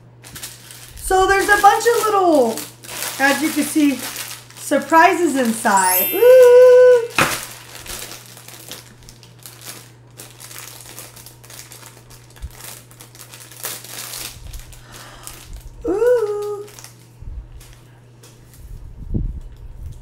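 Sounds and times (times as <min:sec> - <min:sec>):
plastic wrappers crinkling: 0:00.2 - 0:18.4.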